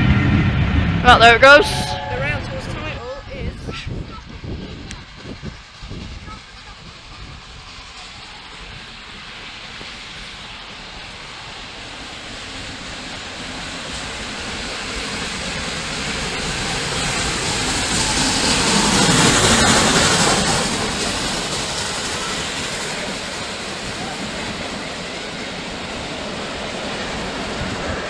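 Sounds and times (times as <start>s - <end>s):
steam train passing at speed: 0.0s - 28.0s.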